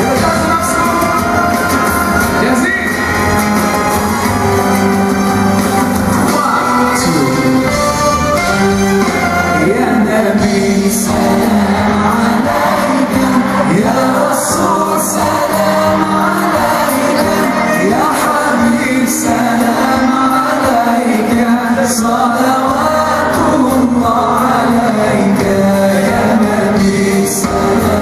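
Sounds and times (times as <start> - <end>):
man singing into a microphone: 0.0 - 3.3, 6.2 - 7.8, 9.5 - 28.0
live band music: 0.0 - 28.0.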